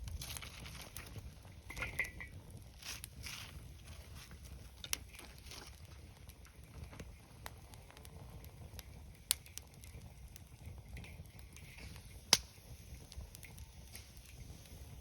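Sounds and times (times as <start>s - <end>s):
campfire crackling: 0.0s - 15.0s
sharp fire pops: 0.0s - 15.0s.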